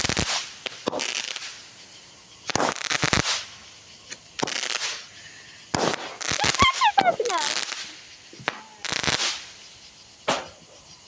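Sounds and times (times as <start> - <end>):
firework crackling: 0.0 - 11.0
firework hissing: 0.0 - 11.0.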